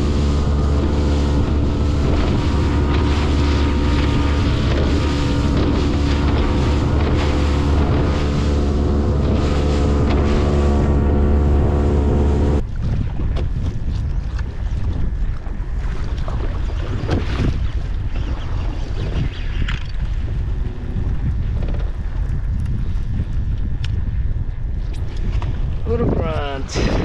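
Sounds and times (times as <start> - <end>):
boat engine running: 0.0 - 27.0
water noise: 0.0 - 27.0
wind: 0.0 - 27.0.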